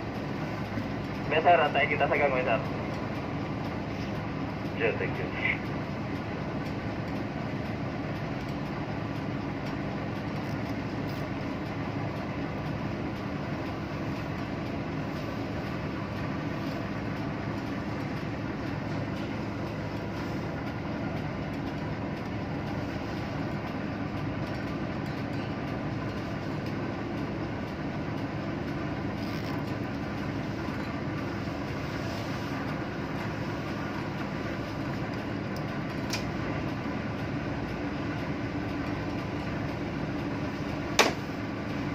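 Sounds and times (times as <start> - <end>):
engine room machinery drone: 0.0 - 41.9.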